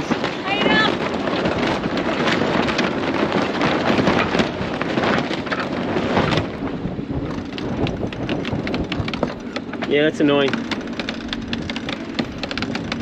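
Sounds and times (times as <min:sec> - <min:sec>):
sail flapping in the wind: 0:00.0 - 0:13.0.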